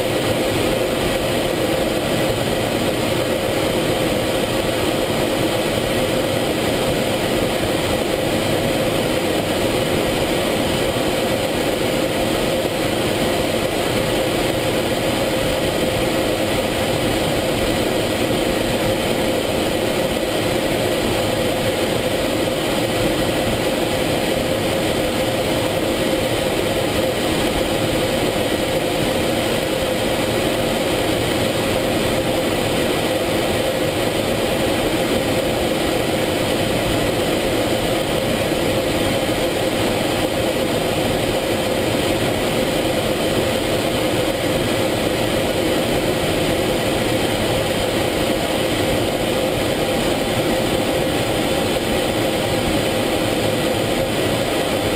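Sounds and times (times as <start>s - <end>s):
jet engine and airflow hum: 0.0s - 54.9s.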